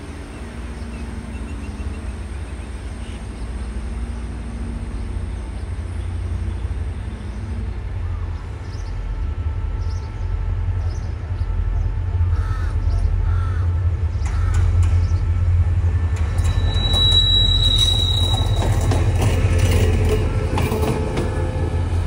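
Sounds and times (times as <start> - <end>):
train engine and wheel rumble: 0.0 - 22.0.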